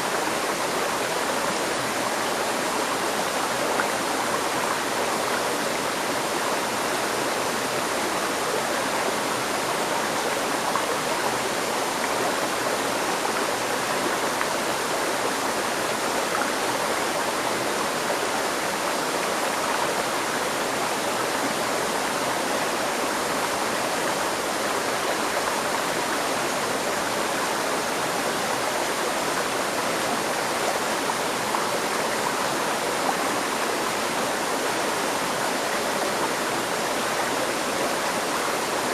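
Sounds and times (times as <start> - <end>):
river stream flowing: 0.0 - 38.9.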